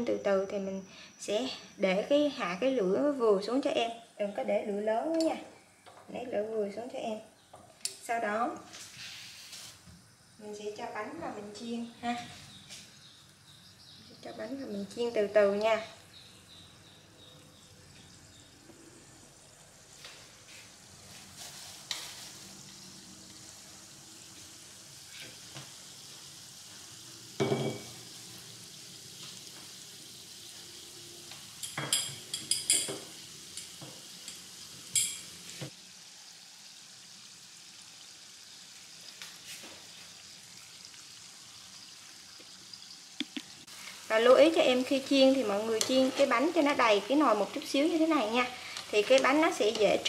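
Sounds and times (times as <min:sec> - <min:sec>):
oil sizzling and bubbling: 0:00.0 - 0:50.0.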